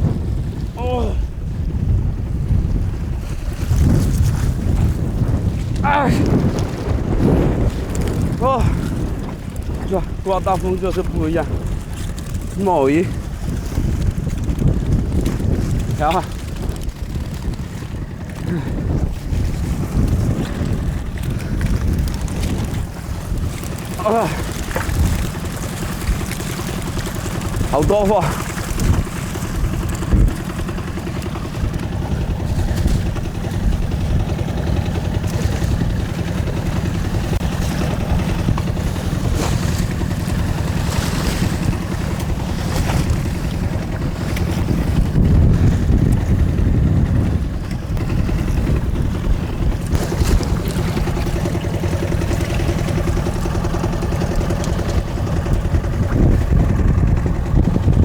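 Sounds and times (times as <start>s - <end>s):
boat engine running: 0.0s - 58.0s
waves: 0.0s - 58.0s
wind: 0.0s - 58.0s.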